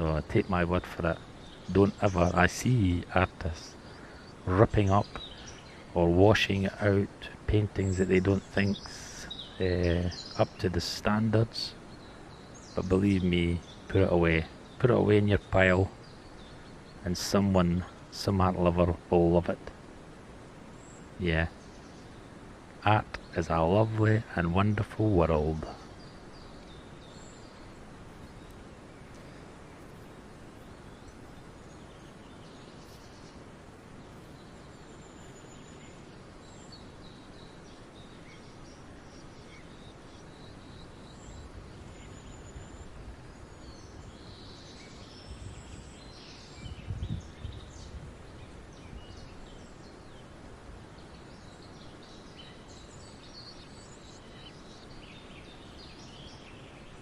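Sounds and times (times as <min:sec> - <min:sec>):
small birds chirping: 0:00.0 - 0:57.0
steady background hiss: 0:00.0 - 0:57.0.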